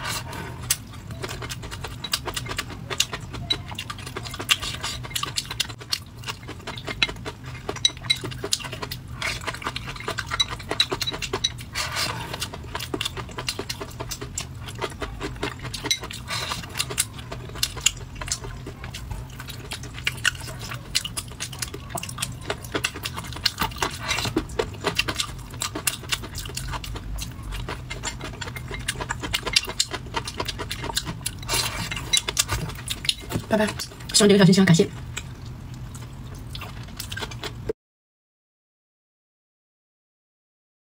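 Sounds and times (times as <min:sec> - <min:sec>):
wet chewing and lip smacking: 0:00.6 - 0:34.2, 0:35.0 - 0:37.7.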